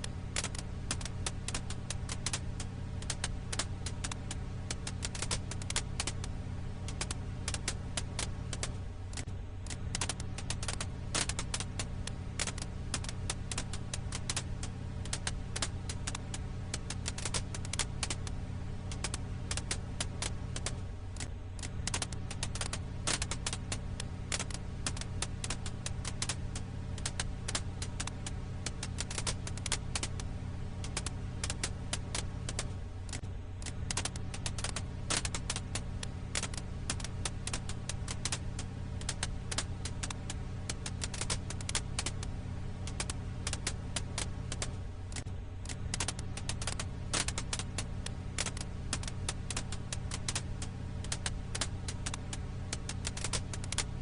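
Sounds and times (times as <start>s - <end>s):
campfire crackling: 0.0s - 54.0s
steady low hum: 0.0s - 54.0s.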